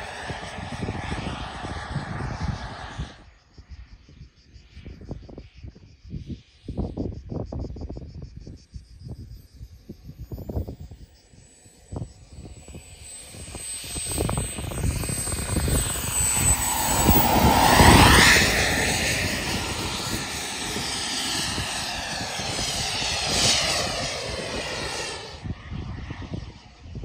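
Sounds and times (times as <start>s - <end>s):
model jet turbine whine: 0.0s - 27.0s.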